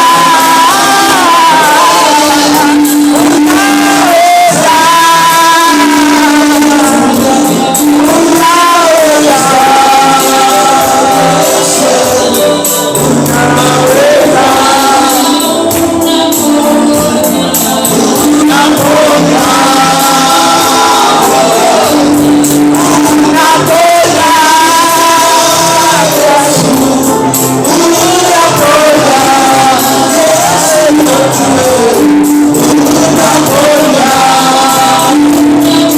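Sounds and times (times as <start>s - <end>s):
band playing: 0.0s - 35.9s
choir singing gospel song: 0.0s - 35.9s.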